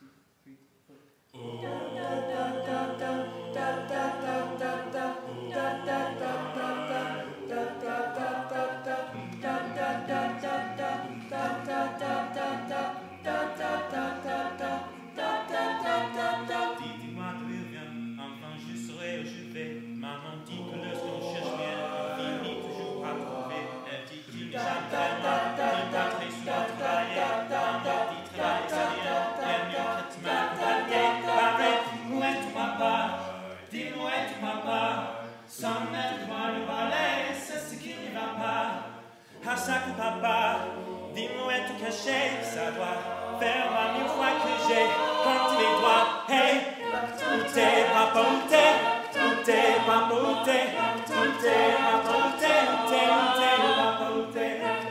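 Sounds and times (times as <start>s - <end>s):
a cappella group singing in harmony: 1.3s - 54.9s.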